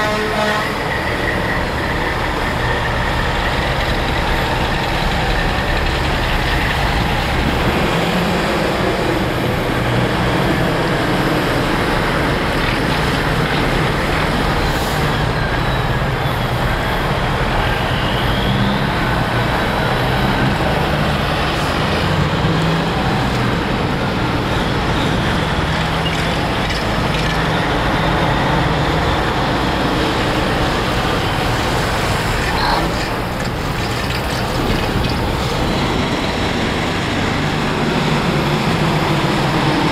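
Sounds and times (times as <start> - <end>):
passing road traffic: 0.0 - 39.9
truck diesel engines driving past: 0.0 - 39.9.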